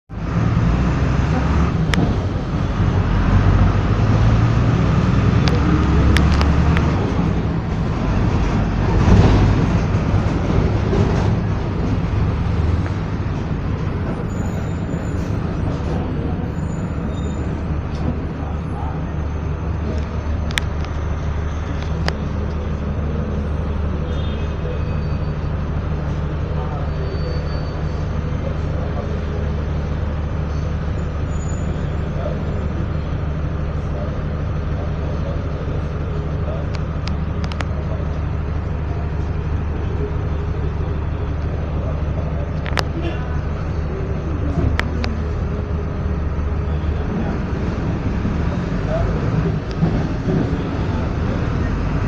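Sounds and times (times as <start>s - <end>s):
bus diesel engine rumble: 0.1s - 52.0s.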